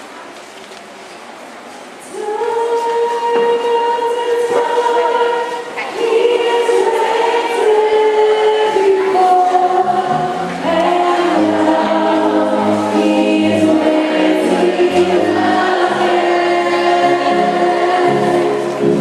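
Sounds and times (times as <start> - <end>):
choir singing a hymn: 2.0 - 19.0.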